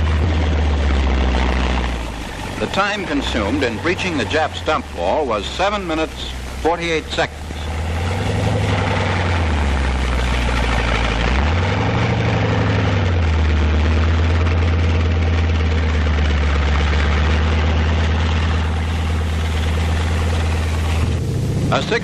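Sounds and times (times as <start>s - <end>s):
tank engine droning: 0.0s - 22.0s.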